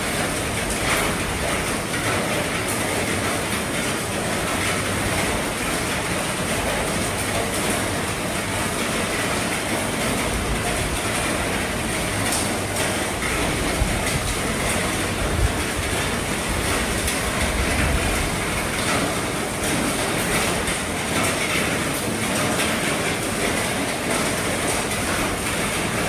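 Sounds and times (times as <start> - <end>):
heavy rain on a roof: 0.0 - 26.0.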